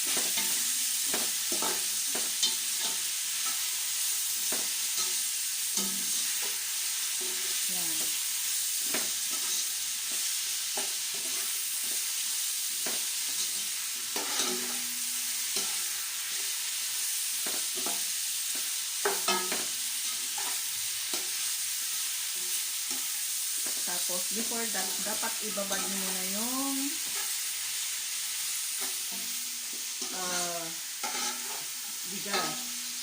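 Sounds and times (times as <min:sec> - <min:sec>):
onion and garlic sizzling in a pan: 0:00.0 - 0:33.0.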